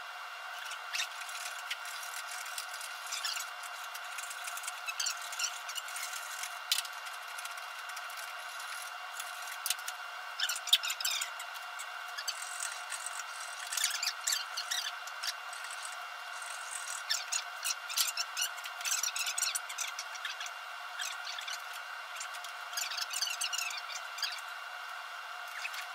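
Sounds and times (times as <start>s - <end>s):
workshop hum: 0.0s - 25.9s
wood and hand tools scraping: 0.6s - 24.4s.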